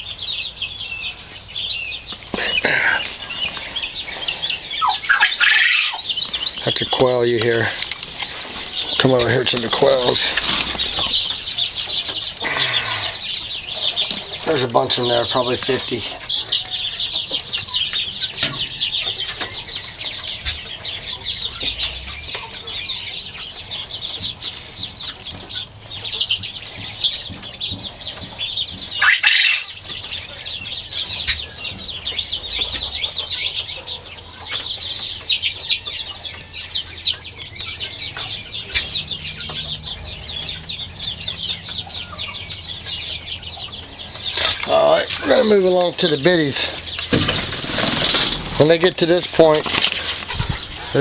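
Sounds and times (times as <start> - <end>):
quail chirping: 0.0 - 51.0.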